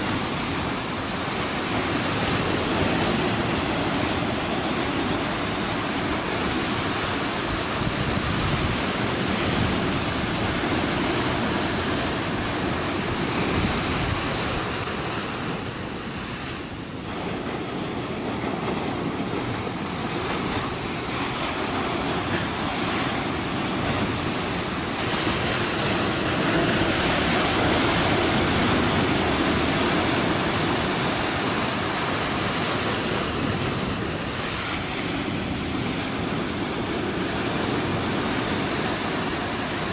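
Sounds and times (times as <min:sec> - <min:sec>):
sea surf on rocky shore: 0:00.0 - 0:39.9
wind on microphone: 0:00.0 - 0:39.9.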